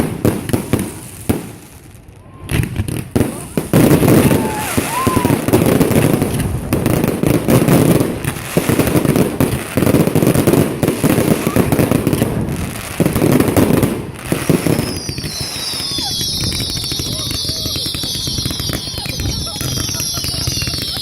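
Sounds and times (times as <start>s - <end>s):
bonfire crackling and popping: 0.0s - 21.0s.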